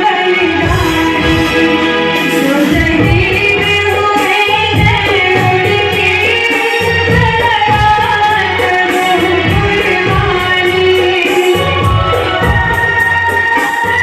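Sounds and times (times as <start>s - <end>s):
backing track with steady beat: 0.0s - 14.0s.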